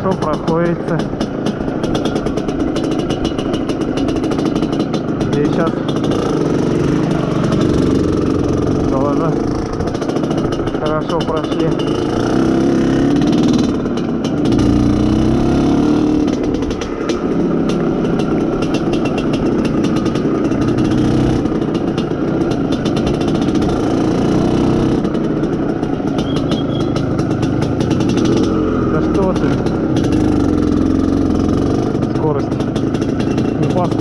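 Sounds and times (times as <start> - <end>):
motorcycle two-stroke engine running: 0.0 - 34.0.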